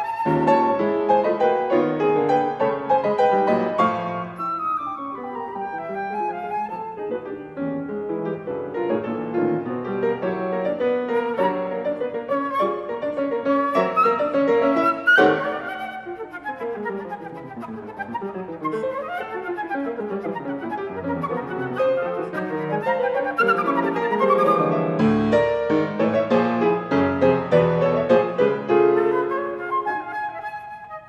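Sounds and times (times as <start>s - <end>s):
flute melody: 0.0s - 31.0s
piano accompaniment: 0.0s - 31.0s.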